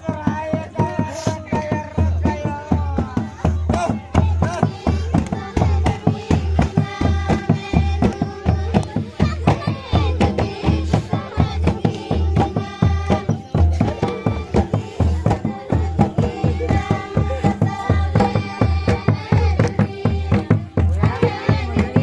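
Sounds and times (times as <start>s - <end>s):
drums beating fast rhythm: 0.0s - 22.0s
voices singing: 0.0s - 22.0s.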